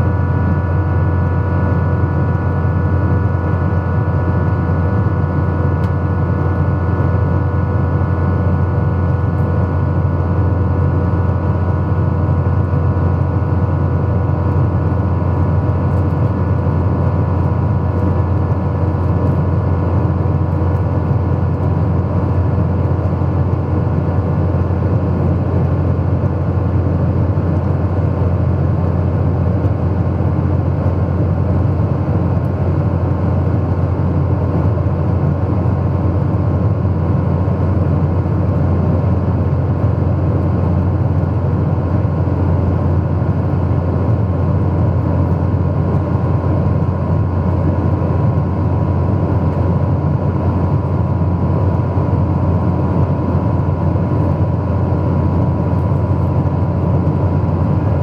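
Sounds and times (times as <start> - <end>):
jet engines and airflow drone: 0.0 - 58.0.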